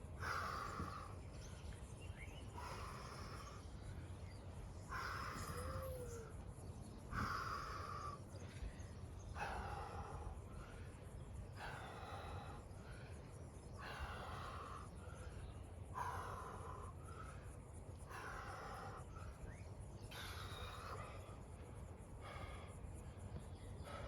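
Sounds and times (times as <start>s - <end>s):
man breathing heavily: 0.0s - 24.0s.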